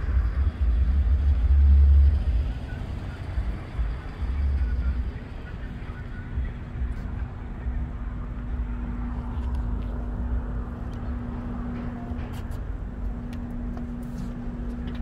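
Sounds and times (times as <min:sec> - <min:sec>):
constant low hum: 0:00.0 - 0:15.0
street traffic rumble: 0:00.0 - 0:15.0.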